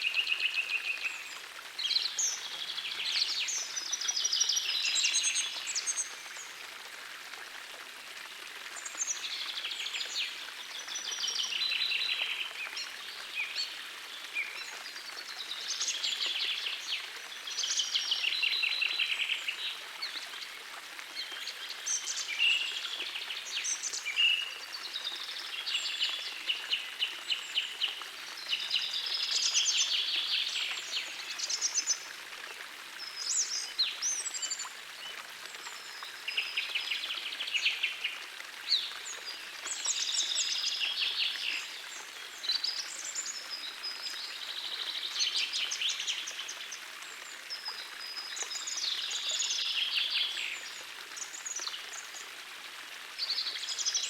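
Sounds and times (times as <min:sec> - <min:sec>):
gently flowing stream: 0:00.0 - 0:54.0.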